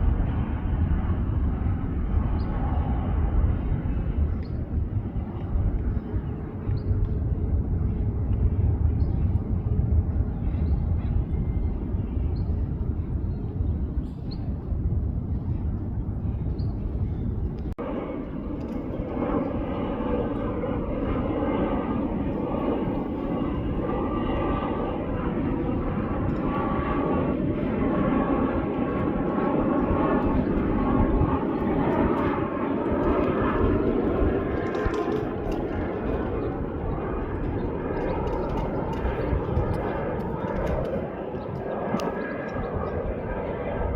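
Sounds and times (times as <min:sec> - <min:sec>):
jet engine rumble: 0:00.0 - 0:43.9
jet engine whining tones: 0:00.0 - 0:43.9.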